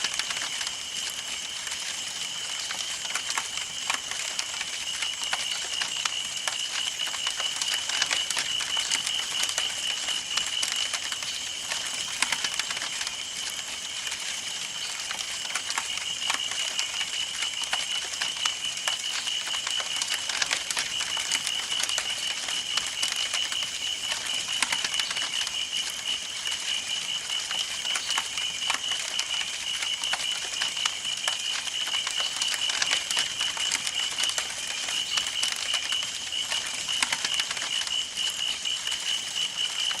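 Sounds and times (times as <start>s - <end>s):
campfire wood crackling: 0.0s - 40.0s.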